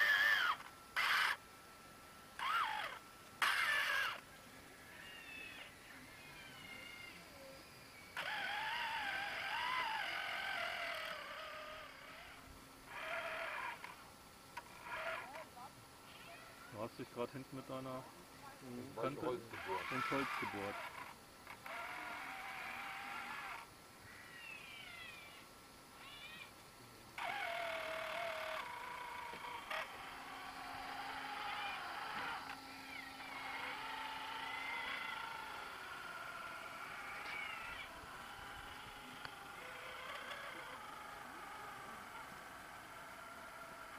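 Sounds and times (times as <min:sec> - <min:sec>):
electric motor whining: 0:00.0 - 0:14.0, 0:14.6 - 0:16.4, 0:19.0 - 0:23.7, 0:27.2 - 0:43.9.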